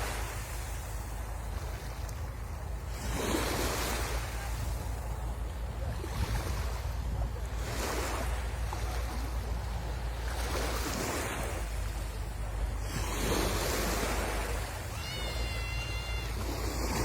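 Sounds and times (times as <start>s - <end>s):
sea waves breaking on shore: 0.0s - 17.0s
wind rumble on microphone: 0.0s - 17.0s.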